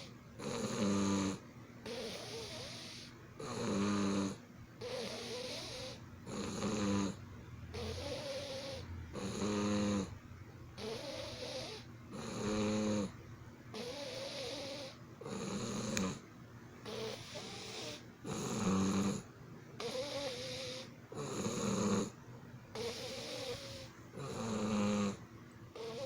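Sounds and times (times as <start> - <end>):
low snore: 0.0 - 10.2, 10.8 - 13.2, 13.8 - 16.2, 16.8 - 22.2, 22.8 - 25.2, 25.8 - 26.0.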